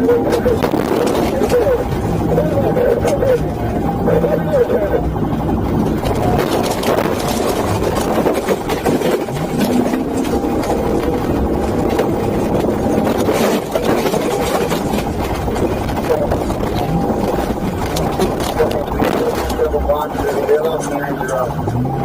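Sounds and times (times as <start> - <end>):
loud vehicle engine: 0.0 - 22.0.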